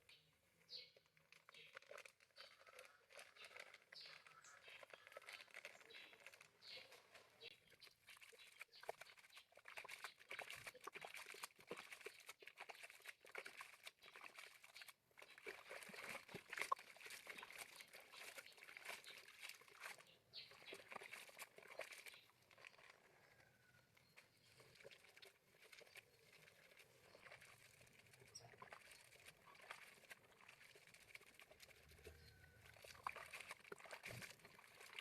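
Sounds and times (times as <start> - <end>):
rustling and crinkling: 0.0 - 35.0.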